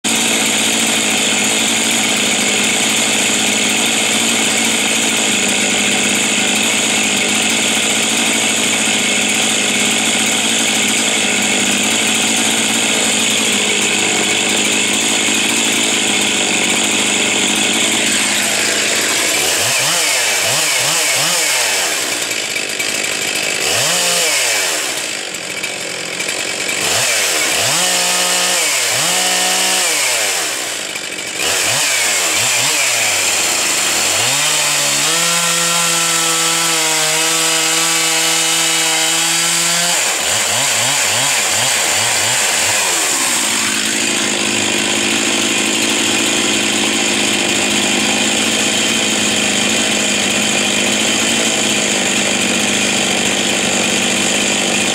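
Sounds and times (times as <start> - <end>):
chainsaw engine revving: 0.0 - 54.9.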